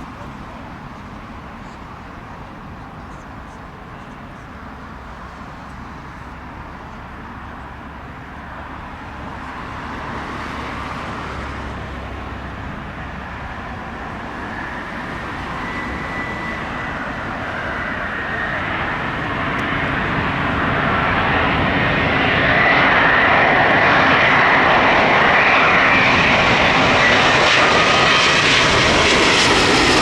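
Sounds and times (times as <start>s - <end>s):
jet engine roar: 0.0s - 30.0s
high engine whine: 4.0s - 30.0s.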